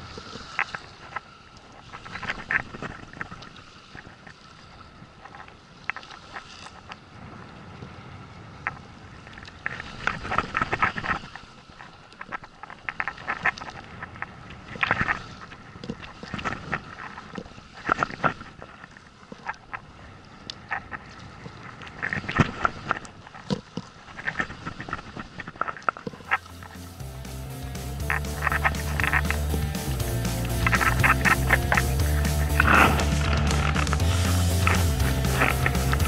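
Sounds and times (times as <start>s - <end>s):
water splashing against boat: 0.0s - 36.0s
wind: 0.0s - 36.0s.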